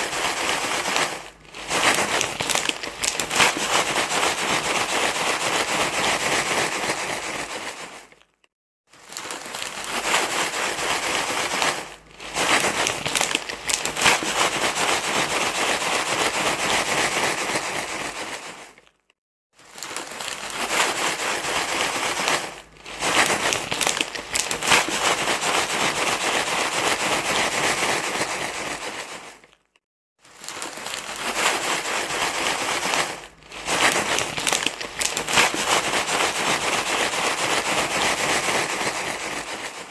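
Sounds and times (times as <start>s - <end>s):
crinkling rustling noise: 0.0s - 39.9s.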